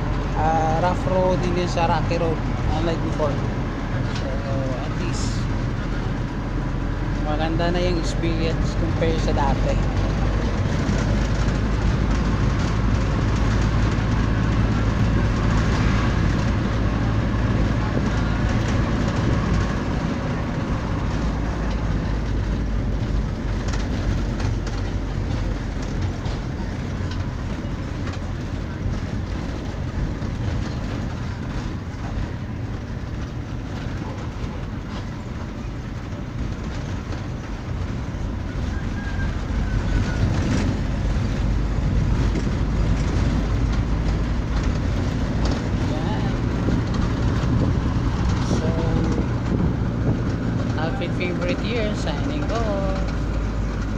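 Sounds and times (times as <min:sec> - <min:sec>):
vehicle engine and road rumble: 0:00.0 - 0:53.9.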